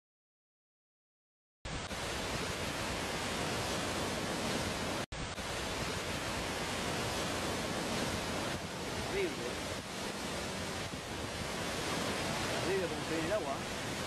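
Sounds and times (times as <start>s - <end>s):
waves breaking against seawall: 1.7s - 14.0s
wind: 1.7s - 14.0s.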